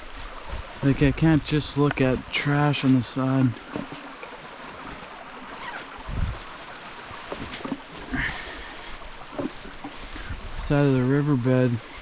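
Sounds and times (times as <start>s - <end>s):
rustle near microphone: 0.0s - 12.0s
stream rushing water: 0.0s - 12.0s.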